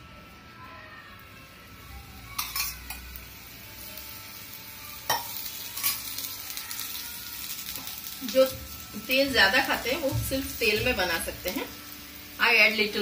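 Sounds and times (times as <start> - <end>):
oil sizzling: 1.7 - 13.0.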